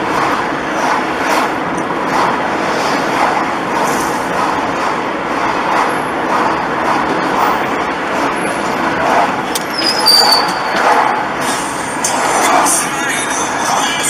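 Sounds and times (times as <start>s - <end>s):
high-pitched whine: 0.0s - 14.0s
road and engine noise inside car: 0.0s - 14.0s.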